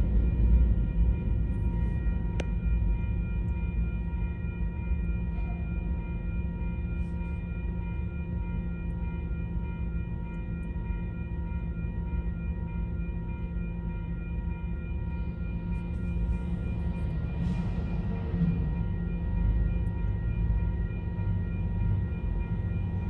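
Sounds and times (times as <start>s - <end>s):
diesel train engine drone: 0.0s - 23.0s.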